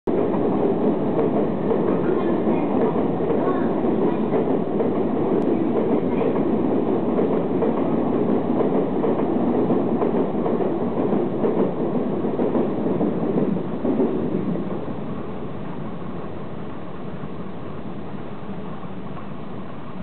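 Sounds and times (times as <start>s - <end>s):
electric train running on track: 0.1s - 20.0s.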